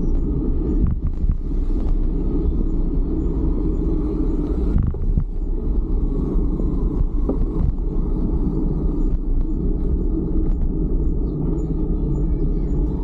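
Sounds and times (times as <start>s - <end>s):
road and traffic noise: 0.0s - 13.0s
wind rumble on microphone: 0.0s - 13.0s.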